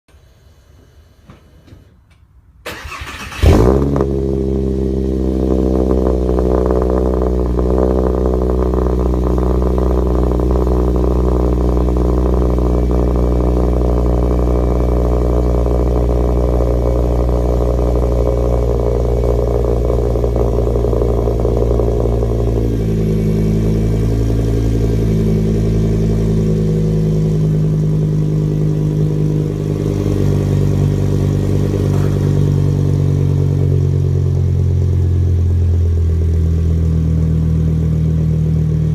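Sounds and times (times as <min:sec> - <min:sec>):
car engine revving and idling: 0:02.8 - 0:38.9.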